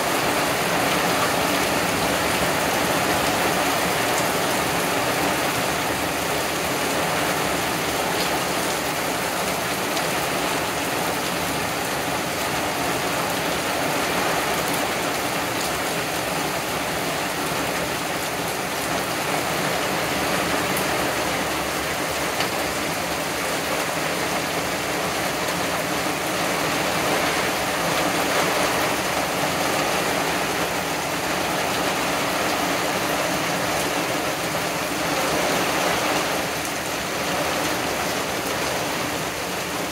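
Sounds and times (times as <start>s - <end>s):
heavy rain on wooden deck and trees: 0.0s - 39.9s.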